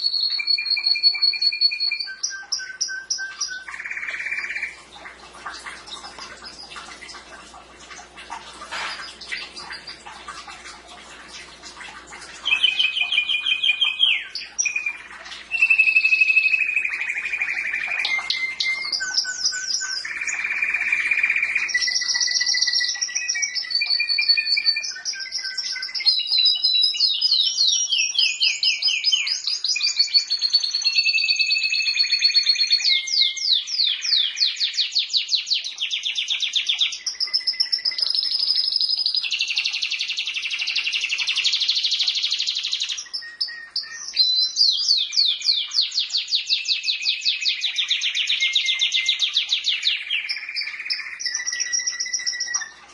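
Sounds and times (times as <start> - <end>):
canary singing: 0.0 - 4.9, 12.4 - 52.8.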